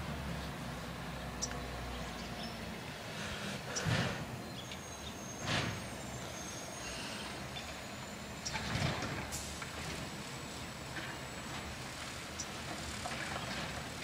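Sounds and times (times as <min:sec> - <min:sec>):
garbage truck running: 0:02.7 - 0:14.0.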